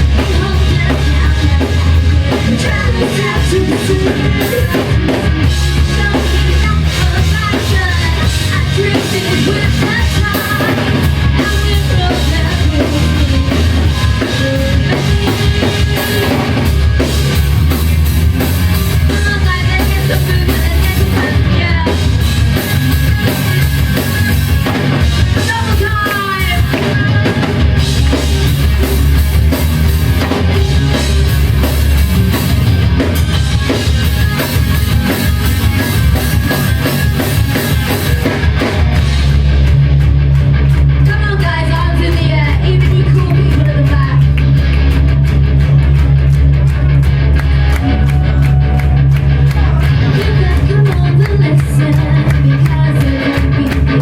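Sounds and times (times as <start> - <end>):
bass drum thumps: 0.0 - 54.0
live rock band playing: 0.0 - 54.0.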